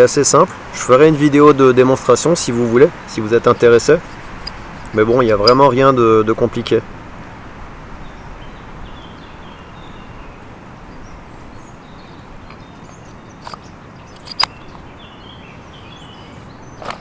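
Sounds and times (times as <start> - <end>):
steady forest hiss: 0.0 - 17.0.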